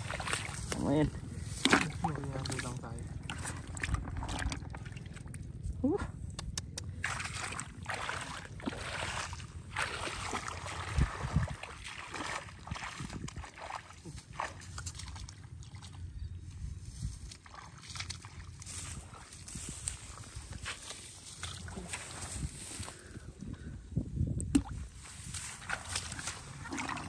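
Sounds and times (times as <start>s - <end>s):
muddy water sloshing: 0.0s - 27.0s.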